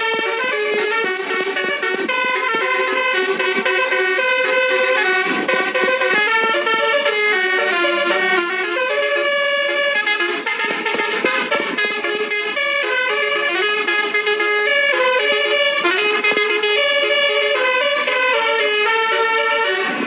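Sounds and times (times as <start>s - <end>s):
multi-tone bus air horn melody: 0.0s - 20.0s.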